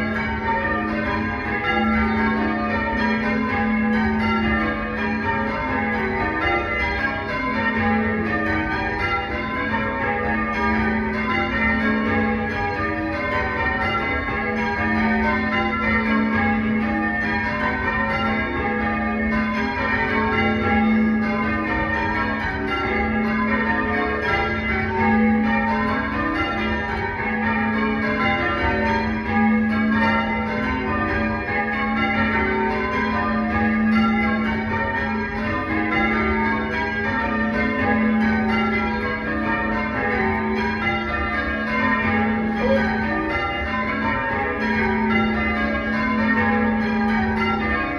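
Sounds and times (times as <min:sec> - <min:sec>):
church bells change-ringing: 0:00.0 - 0:47.9.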